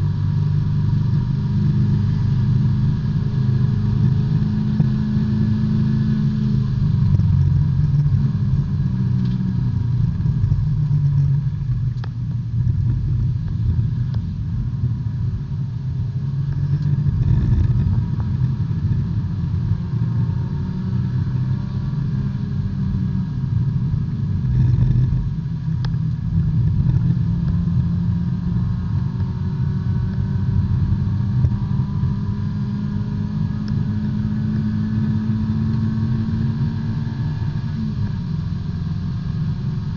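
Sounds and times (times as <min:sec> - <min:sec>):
race car engine from cockpit: 0:00.0 - 0:39.9.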